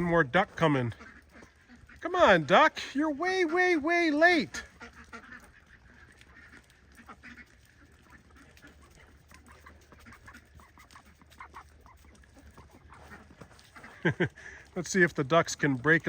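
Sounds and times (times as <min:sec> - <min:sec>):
ducks quacking faintly: 0:00.0 - 0:16.0.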